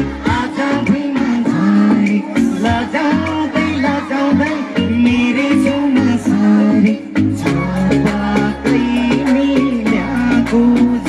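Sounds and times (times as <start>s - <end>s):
live pop music over loudspeakers: 0.0s - 11.0s
person singing: 0.0s - 11.0s.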